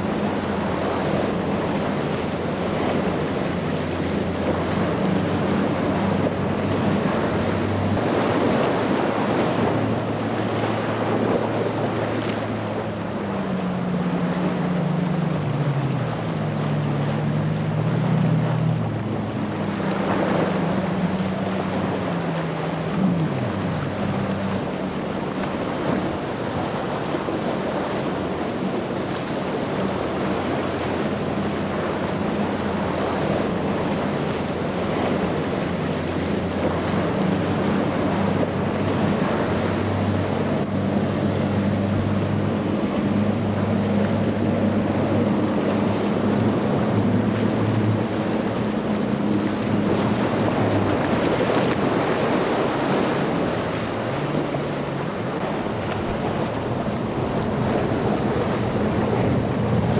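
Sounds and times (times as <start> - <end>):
outboard motors droning: 0.0 - 59.9
water rushing off boat hulls: 0.0 - 59.9
wind buffeting microphone: 0.0 - 59.9.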